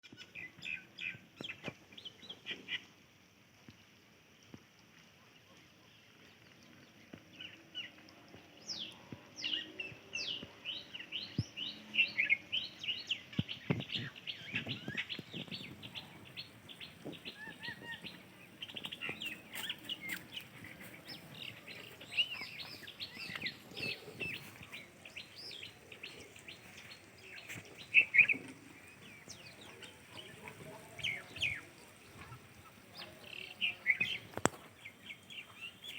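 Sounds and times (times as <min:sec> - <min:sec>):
small birds chirping: 0:00.0 - 0:03.1, 0:03.7 - 0:35.9.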